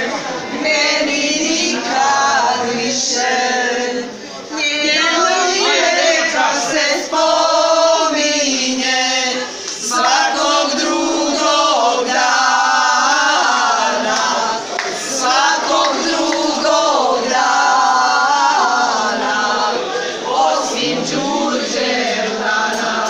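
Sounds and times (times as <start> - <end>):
women singing in chorus: 0.0 - 23.0.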